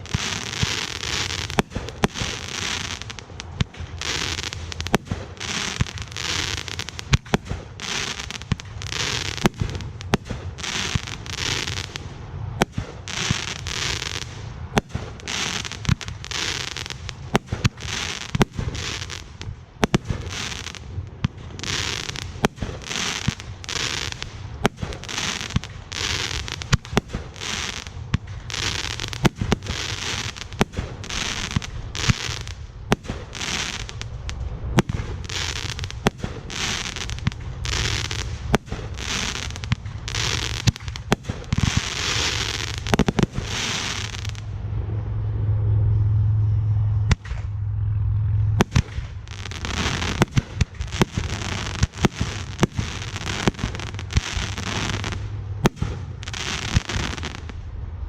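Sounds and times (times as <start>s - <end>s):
fireworks crackling hiss: 0.0s - 44.5s, 48.6s - 57.7s
fireworks bangs: 0.0s - 44.8s, 47.0s - 47.6s, 48.6s - 57.6s.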